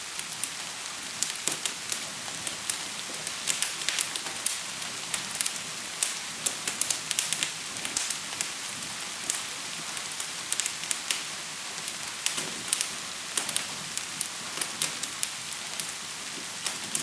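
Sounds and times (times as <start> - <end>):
gentle rain hiss: 0.0 - 17.0
wood fire crackling: 0.0 - 17.0.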